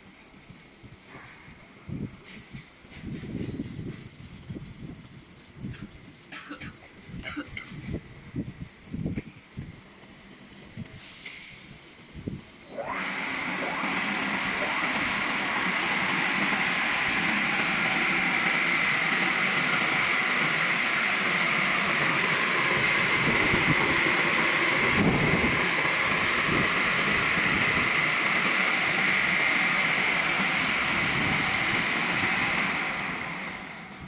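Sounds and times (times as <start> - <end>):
high-pressure water jets hissing: 0.0 - 34.0.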